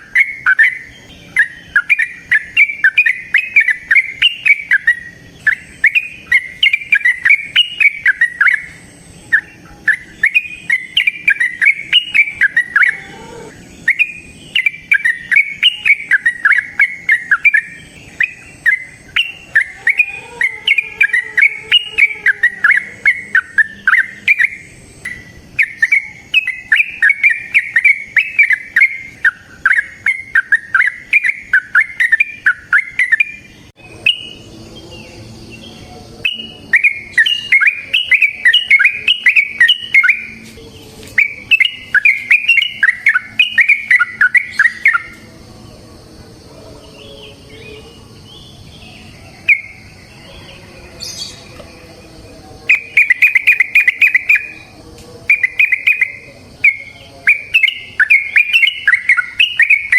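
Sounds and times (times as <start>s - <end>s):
bird singing bubbly warbles: 0.0s - 34.4s, 36.2s - 40.4s, 41.2s - 45.2s, 52.7s - 54.6s, 55.3s - 59.9s.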